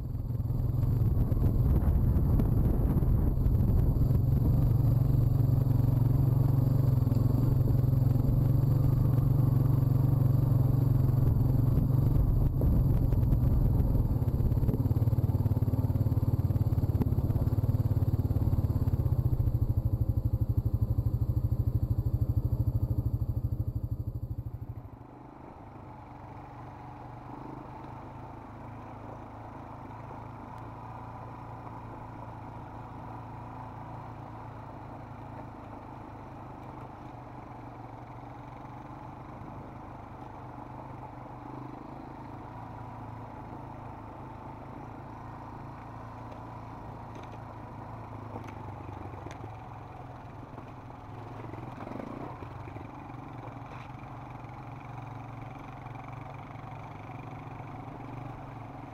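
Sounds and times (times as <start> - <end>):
distant quad bike engine: 0.0 - 58.9
quad bike engine running: 0.0 - 58.9.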